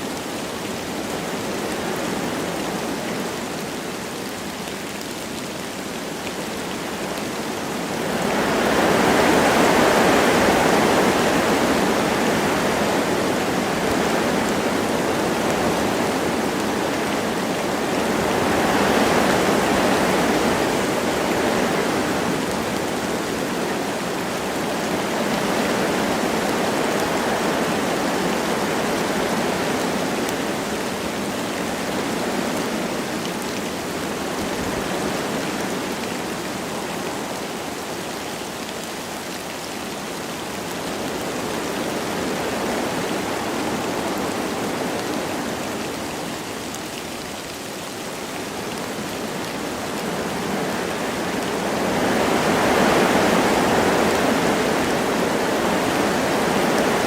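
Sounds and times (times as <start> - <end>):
light rain: 0.0 - 57.0
wind through trees: 0.0 - 57.0.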